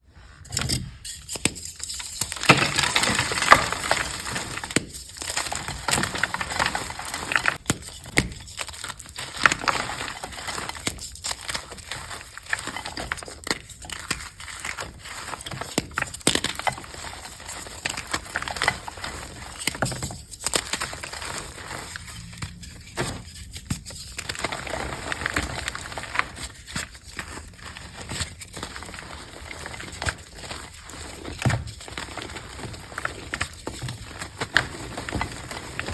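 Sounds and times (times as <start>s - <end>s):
chalk being crushed: 0.3s - 35.9s.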